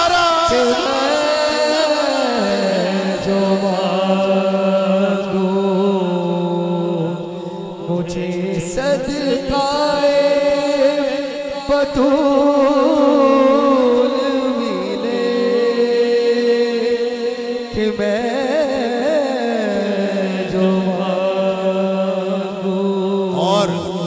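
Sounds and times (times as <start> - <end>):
man singing wordless melody: 0.0 - 24.0.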